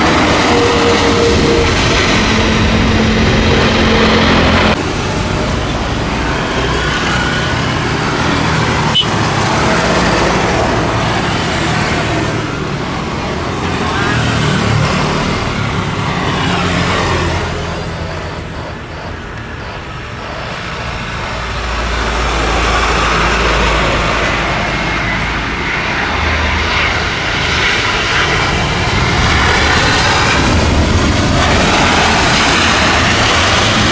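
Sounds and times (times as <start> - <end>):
traffic roar: 0.0 - 33.9.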